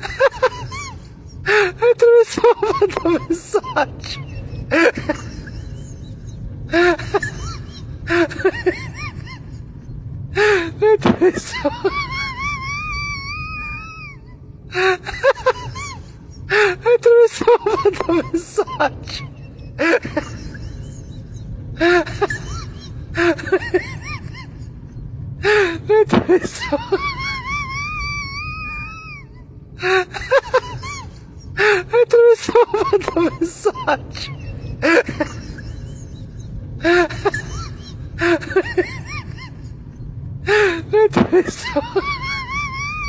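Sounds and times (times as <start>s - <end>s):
outdoor background noise: 0.0s - 43.0s
steady low rumble: 0.0s - 43.0s.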